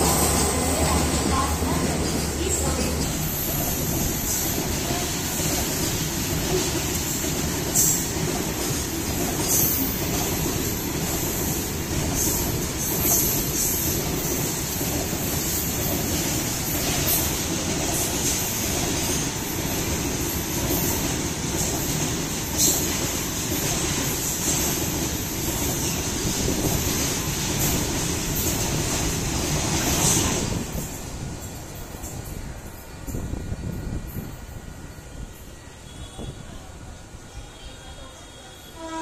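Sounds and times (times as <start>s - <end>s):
train wheels rumbling on rails: 0.0s - 37.2s.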